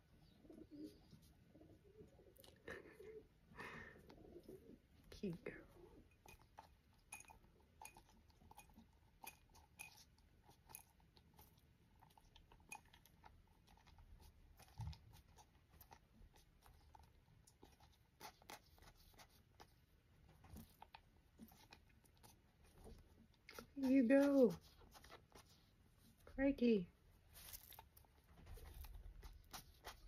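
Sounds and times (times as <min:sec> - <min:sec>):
pigeon pecking seeds in glass jar: 0:04.0 - 0:26.2, 0:27.3 - 0:30.0.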